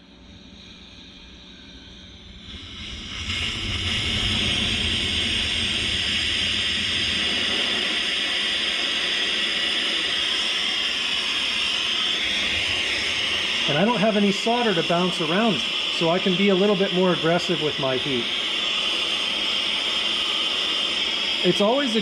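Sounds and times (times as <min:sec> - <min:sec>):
torch flame hissing: 0:02.4 - 0:22.0.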